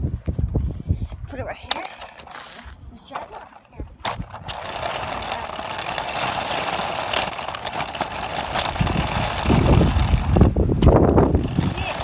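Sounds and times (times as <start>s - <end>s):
wheels rolling over ground: 1.3s - 12.0s.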